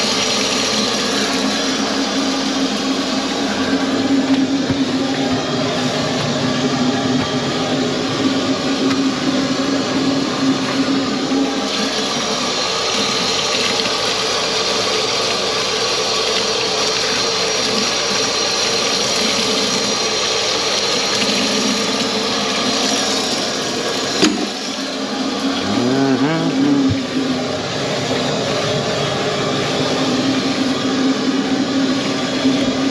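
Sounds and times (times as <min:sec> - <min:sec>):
faucet running into steel sink: 0:00.0 - 0:32.9.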